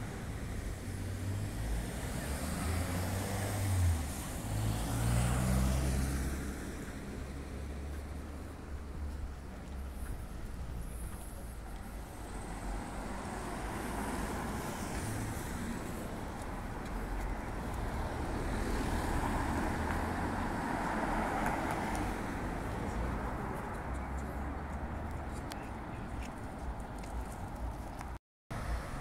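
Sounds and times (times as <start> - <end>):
vehicle passing on street: 0.0 - 29.0.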